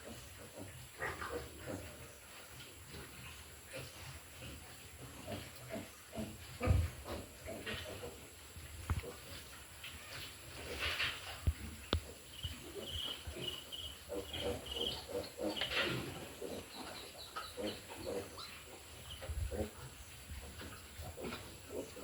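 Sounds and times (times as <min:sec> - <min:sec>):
pigs grunting: 0:00.0 - 0:22.0.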